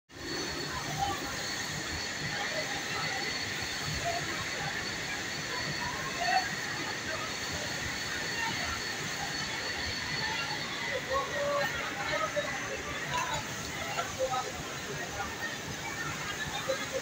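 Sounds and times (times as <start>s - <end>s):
factory machinery noise: 0.1s - 17.0s
faint voices: 0.2s - 17.0s.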